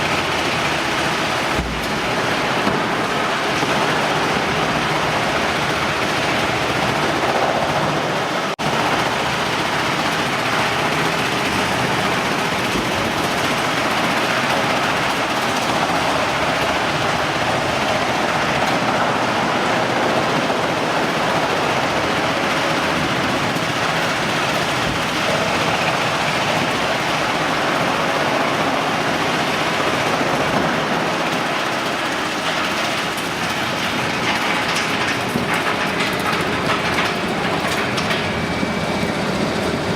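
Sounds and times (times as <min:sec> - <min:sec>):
wood chipper rattling: 0:00.0 - 0:39.9.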